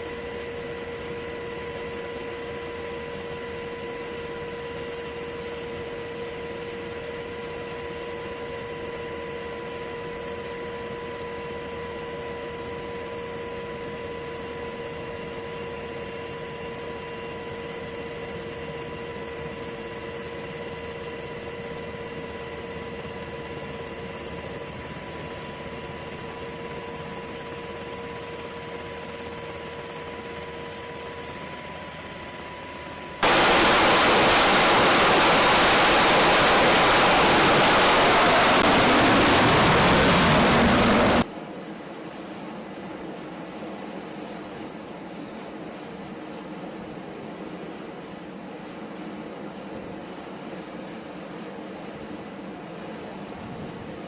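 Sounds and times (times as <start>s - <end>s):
machinery hum with whine: 0.0s - 54.0s.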